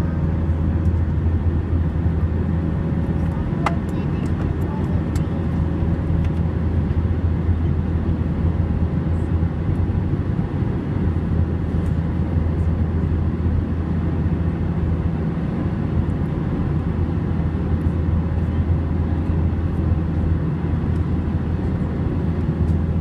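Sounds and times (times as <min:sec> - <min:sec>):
aircraft engine drone: 0:00.0 - 0:23.0.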